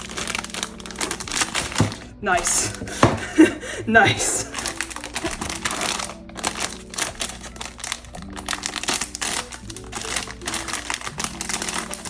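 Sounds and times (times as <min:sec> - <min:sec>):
plastic packaging crinkling: 0:00.0 - 0:12.0
soft background music: 0:00.0 - 0:12.0.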